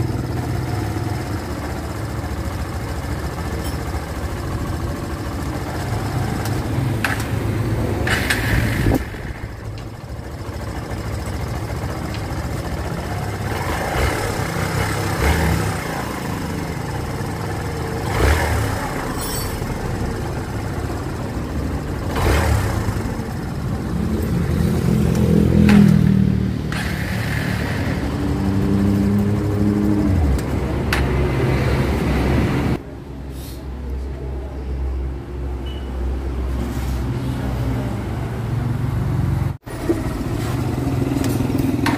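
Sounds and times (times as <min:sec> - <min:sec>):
motorcycle engine revving: 0:00.0 - 0:32.8, 0:37.3 - 0:41.9.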